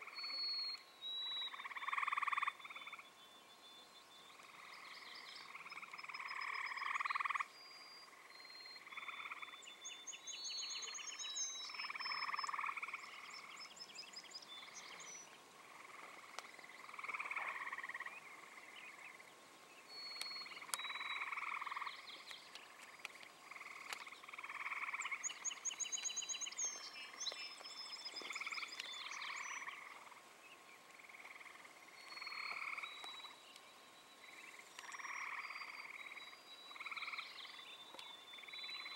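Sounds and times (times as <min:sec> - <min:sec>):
frogs croaking: 0:00.0 - 0:03.2, 0:04.0 - 0:38.9.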